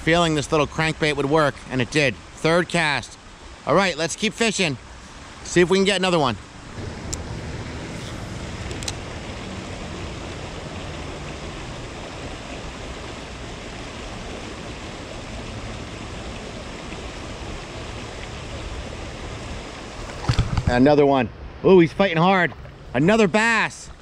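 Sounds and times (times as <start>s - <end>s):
river current rushing: 0.0s - 24.0s.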